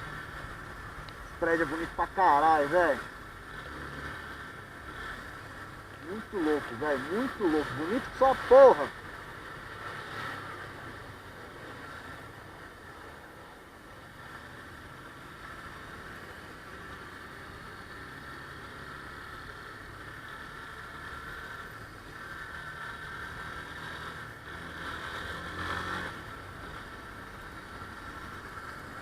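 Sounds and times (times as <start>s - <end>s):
city traffic: 0.0s - 29.0s
road and wind noise: 0.0s - 29.0s.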